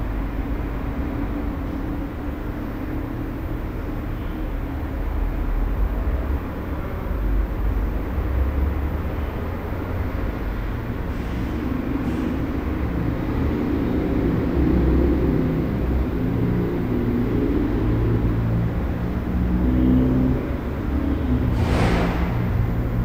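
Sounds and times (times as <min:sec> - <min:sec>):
low hum and rumble: 0:00.0 - 0:23.0.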